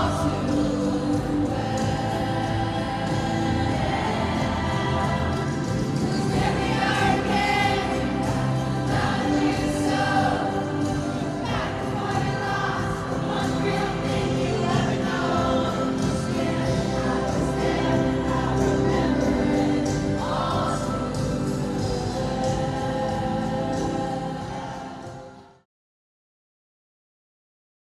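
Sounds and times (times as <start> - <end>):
song with layered singing: 0.0 - 25.7.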